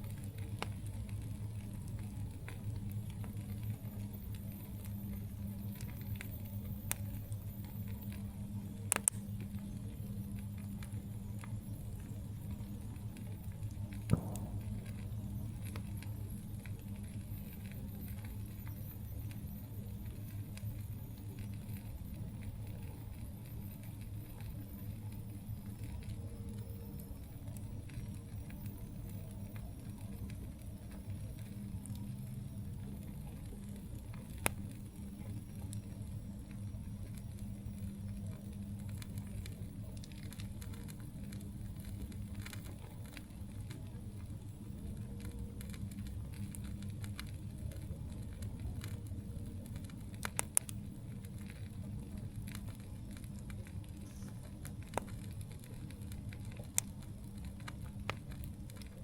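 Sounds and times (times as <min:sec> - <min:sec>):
burning wood popping: 0:00.0 - 0:59.0
campfire burning: 0:00.0 - 0:59.0.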